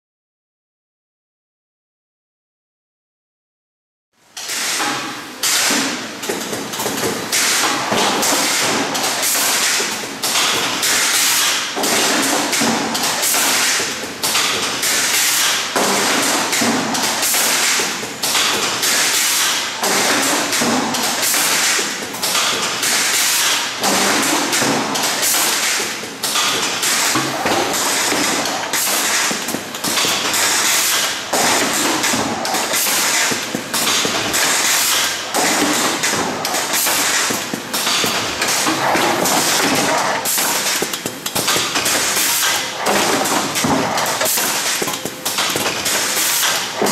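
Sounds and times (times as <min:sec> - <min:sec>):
machine clattering: 0:05.7 - 0:46.9.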